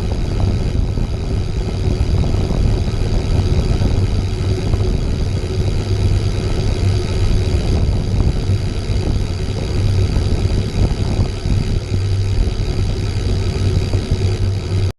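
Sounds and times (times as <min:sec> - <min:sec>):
bicycle freewheel ticking: 0:00.0 - 0:14.9
steady high whir: 0:00.0 - 0:14.9
wind buffeting microphone: 0:00.0 - 0:14.9.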